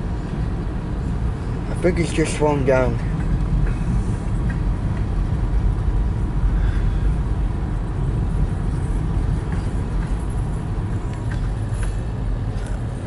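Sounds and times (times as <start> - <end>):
train cars rolling low rumble: 0.0 - 13.0.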